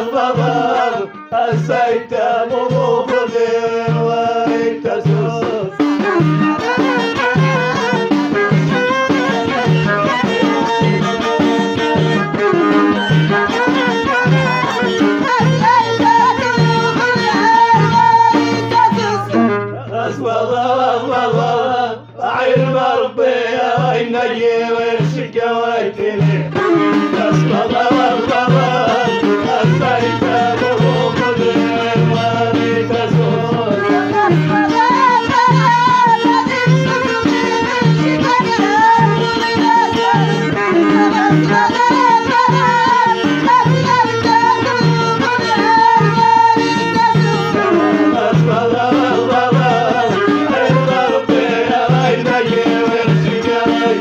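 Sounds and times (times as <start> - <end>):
folk music with drone and beat: 0.0 - 54.0.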